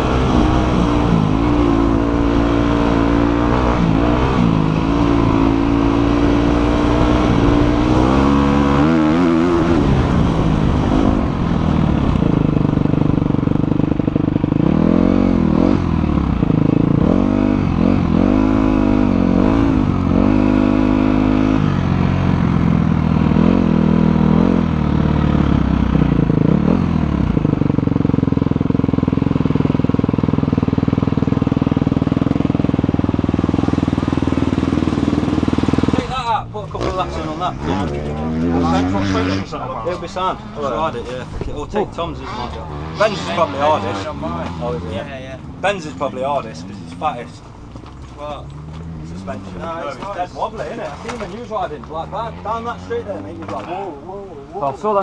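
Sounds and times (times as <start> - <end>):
motocross bike engine revving: 0.0 - 47.3, 48.3 - 53.9.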